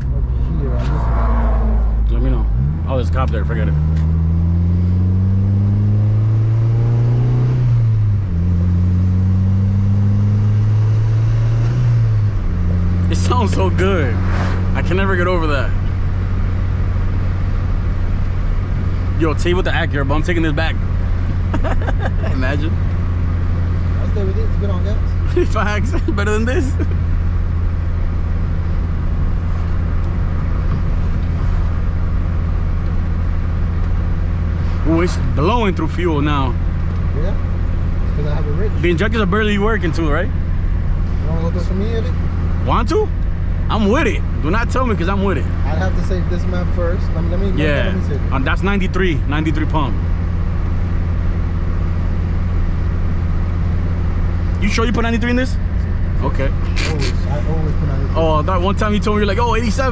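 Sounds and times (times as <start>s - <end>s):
car engine accelerating with upshift: 0.0s - 59.9s
road noise: 0.0s - 59.9s.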